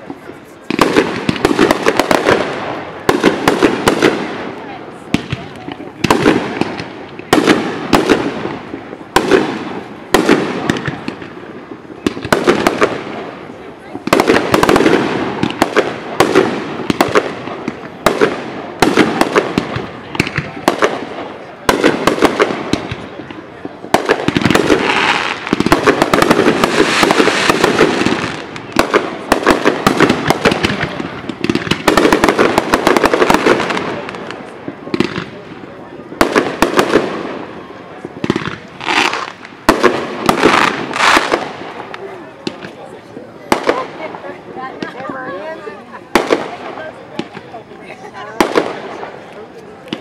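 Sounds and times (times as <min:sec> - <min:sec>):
crackling firework pops: 0:00.0 - 0:45.2, 0:46.0 - 0:47.6, 0:48.4 - 0:50.0
firework bangs: 0:00.0 - 0:50.0.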